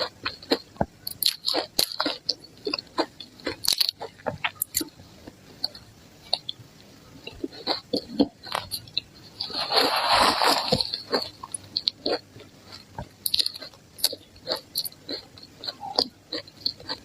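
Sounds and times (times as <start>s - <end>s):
chewing ice cubes: 0.0s - 6.6s, 7.2s - 17.0s.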